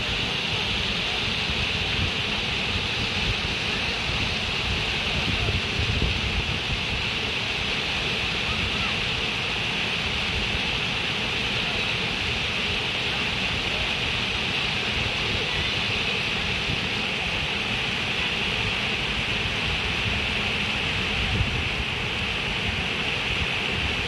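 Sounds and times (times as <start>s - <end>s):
water flowing: 0.0s - 24.0s.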